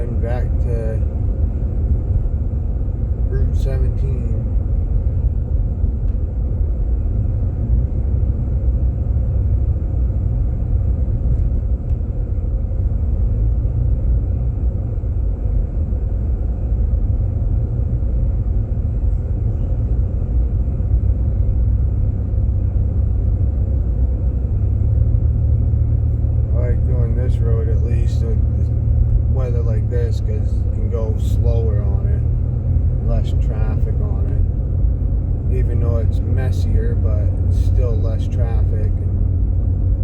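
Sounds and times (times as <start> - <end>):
car cabin road rumble: 0.0 - 40.0.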